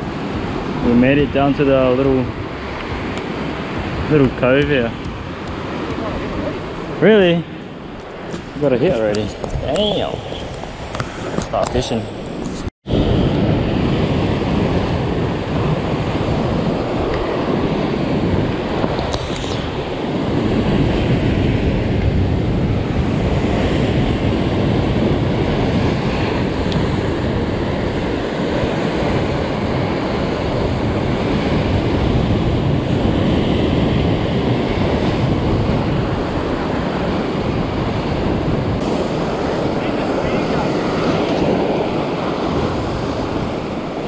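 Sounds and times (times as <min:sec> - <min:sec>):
surf on rocky shore: 0:00.0 - 0:44.0
wind buffeting microphone: 0:00.0 - 0:44.0.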